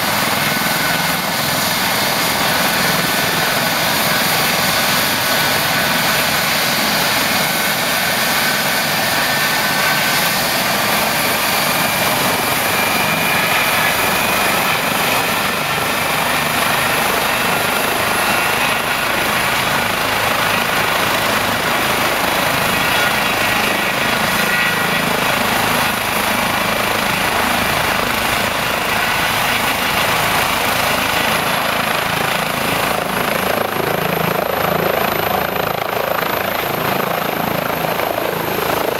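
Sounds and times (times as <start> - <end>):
helicopter rotors turning: 0.0 - 38.9
helicopter turbine whine: 0.0 - 38.9.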